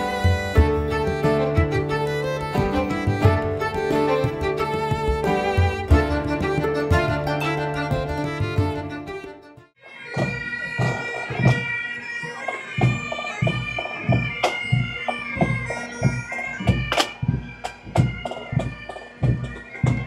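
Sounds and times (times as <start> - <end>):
drum strokes: 0.0 - 9.4, 10.1 - 20.0
bagpipes playing tune: 0.0 - 20.0.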